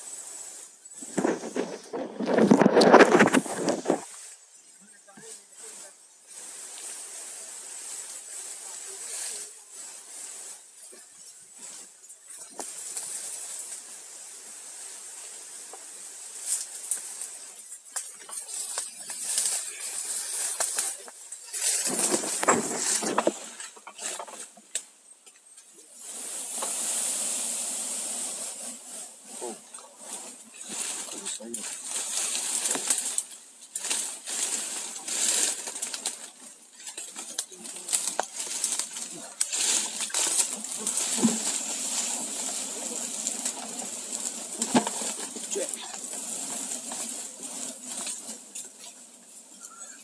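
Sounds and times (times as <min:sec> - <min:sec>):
rustles and clicks: 0:00.0 - 0:50.0
steady high hiss: 0:00.0 - 0:50.0.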